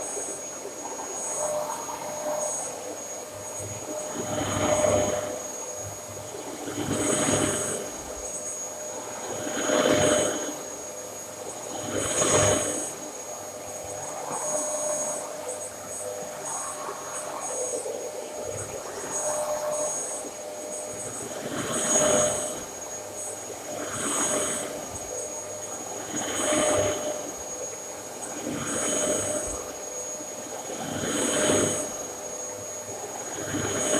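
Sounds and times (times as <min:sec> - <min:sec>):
vacuum cleaner whining: 0:00.0 - 0:33.9.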